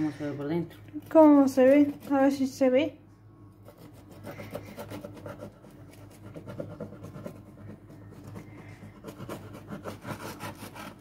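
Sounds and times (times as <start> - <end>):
knife sawing through cake: 1.0 - 2.6, 3.6 - 11.0.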